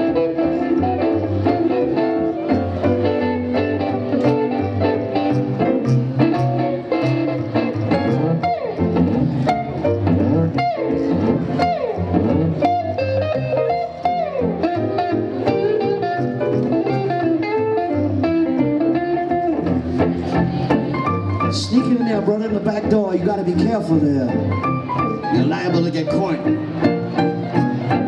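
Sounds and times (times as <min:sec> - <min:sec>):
guitar: 0:00.0 - 0:28.0
piano: 0:00.0 - 0:28.0
plucked double bass: 0:00.0 - 0:28.0.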